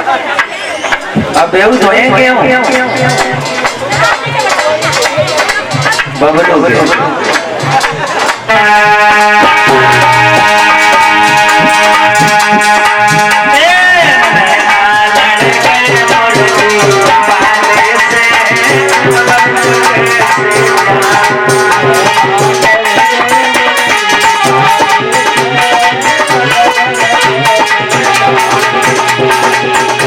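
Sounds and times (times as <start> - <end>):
steady beat: 0.0 - 30.0
loud music with held melody: 0.3 - 30.0
rattling shaker percussion: 0.4 - 8.6, 9.2 - 30.0.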